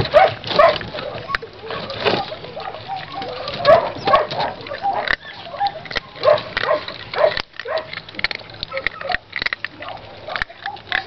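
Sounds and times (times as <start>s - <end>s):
kibble crunching in metal bowl: 0.0s - 11.0s
puppy vocal noises: 0.0s - 11.0s.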